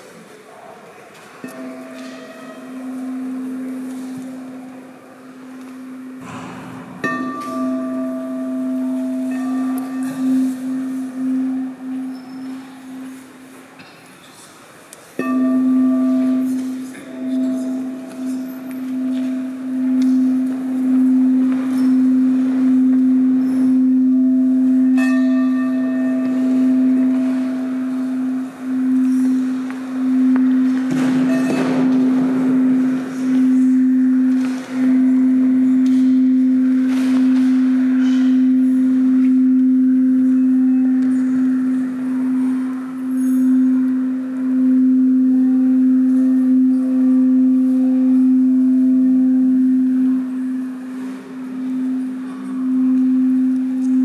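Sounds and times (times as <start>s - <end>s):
singing bowl deep tone: 1.5s - 13.6s, 15.2s - 54.0s
high ringing with overtones: 5.8s - 13.6s, 15.2s - 54.0s.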